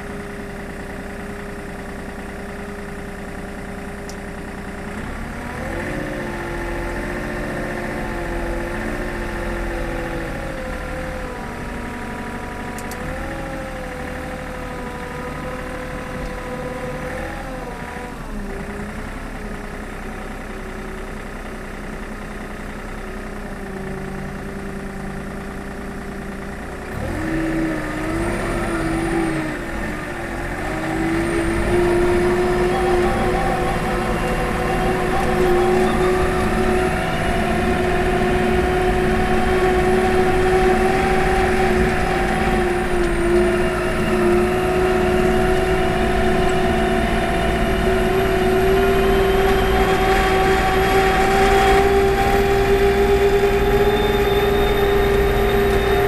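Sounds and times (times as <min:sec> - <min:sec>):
loader diesel engine running: 0:00.0 - 0:56.0.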